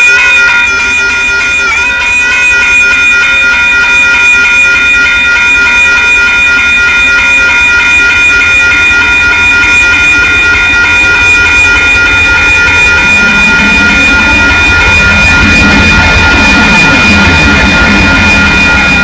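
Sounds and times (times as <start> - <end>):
locomotive air horn chord: 0.0 - 19.0
train rumbling: 0.0 - 19.0.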